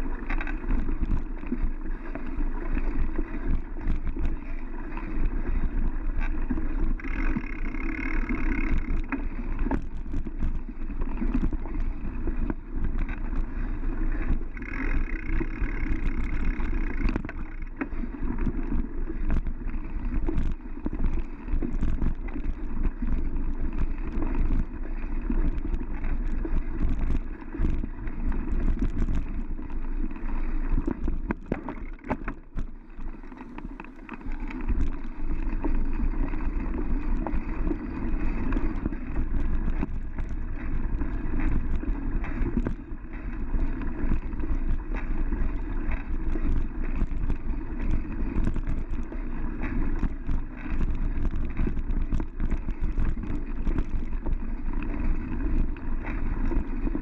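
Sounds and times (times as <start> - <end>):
bike rattling over bumps: 0.0 - 57.0
bike tyres rumbling on dirt: 0.0 - 57.0
wind on microphone: 0.0 - 57.0.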